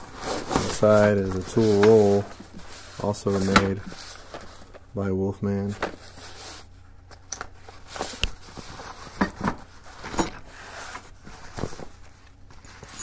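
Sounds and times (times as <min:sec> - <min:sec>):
cloth rustling: 0:00.0 - 0:04.9, 0:07.4 - 0:13.0.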